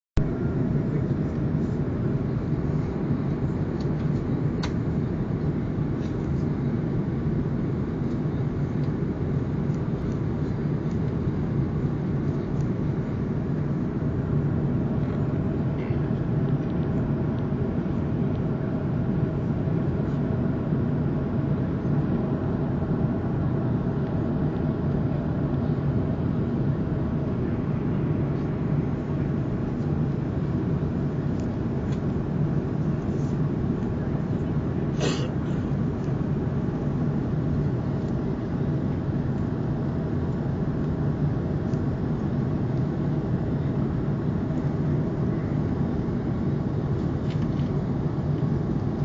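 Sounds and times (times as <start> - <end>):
jet engine cabin roar: 0.2 - 49.0.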